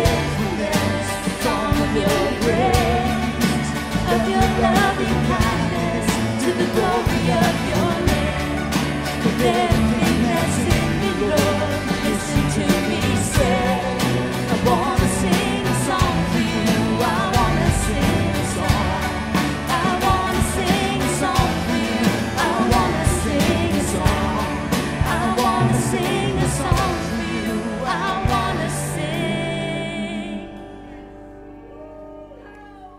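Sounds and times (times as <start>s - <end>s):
steady drum beat: 0.0s - 29.0s
worship band singing: 0.0s - 32.4s.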